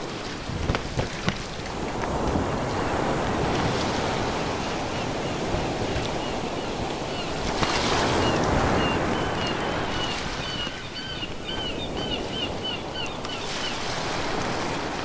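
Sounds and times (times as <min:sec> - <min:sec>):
ocean waves washing ashore: 0:00.0 - 0:15.0.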